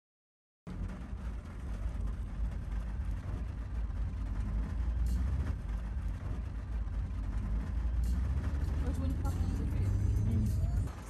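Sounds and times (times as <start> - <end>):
heavy rain on car roof: 0.7 - 11.0.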